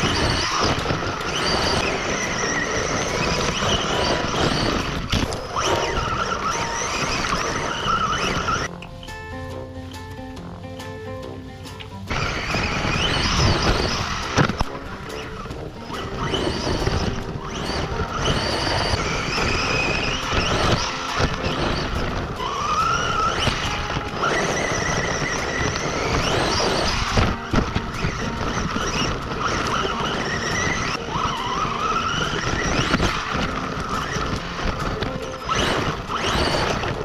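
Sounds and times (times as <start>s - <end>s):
electric motor and gear whine: 0.0s - 37.0s
tyres on dirt and gravel: 0.0s - 37.0s.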